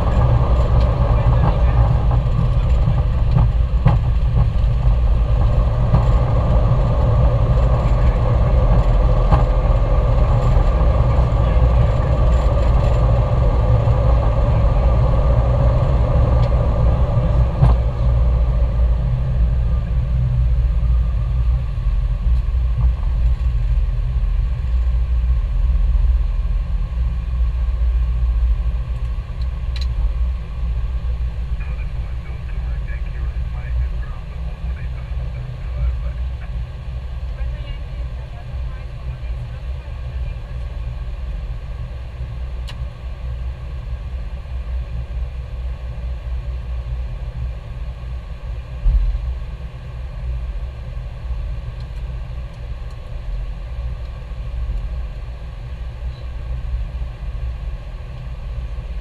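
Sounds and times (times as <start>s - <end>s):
deep engine rumble: 0.0s - 59.0s.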